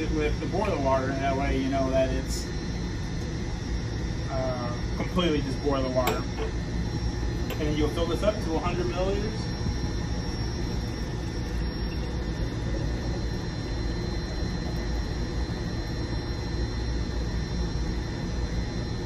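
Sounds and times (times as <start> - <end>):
deep machinery drone: 0.0 - 19.0
thin high whine: 0.0 - 19.0.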